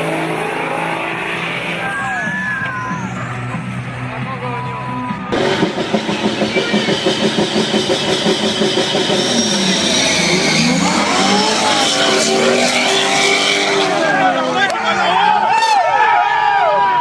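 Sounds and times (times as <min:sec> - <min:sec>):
race truck engines revving: 0:00.0 - 0:17.0.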